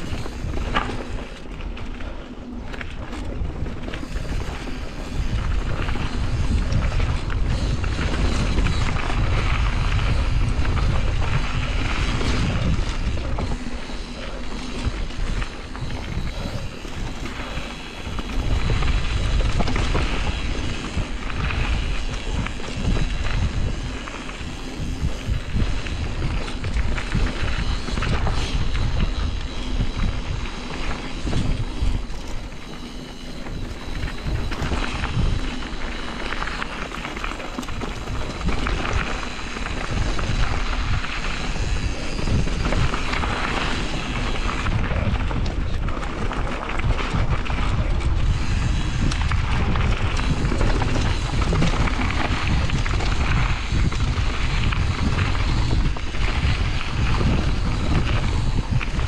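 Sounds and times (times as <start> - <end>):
bike rattling and knocking: 0.0 - 59.0
tyres crunching over stones: 0.0 - 59.0
wind buffeting microphone: 0.0 - 59.0.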